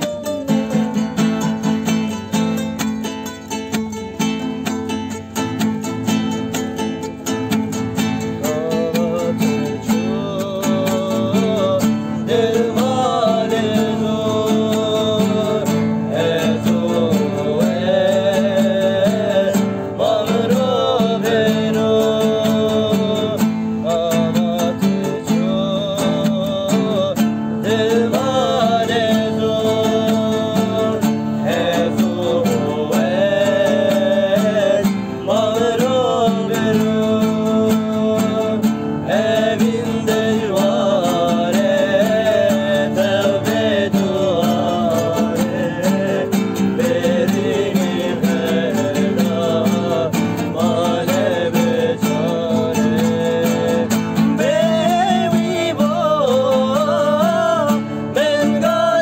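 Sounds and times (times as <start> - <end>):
classical guitars strumming: 0.0 - 59.0
man singing folk song: 0.0 - 59.0.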